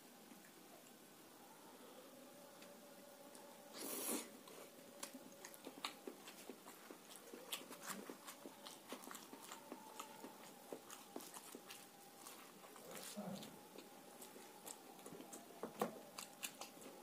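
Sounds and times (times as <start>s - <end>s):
wet chewing with mouth clicks: 3.3s - 17.0s.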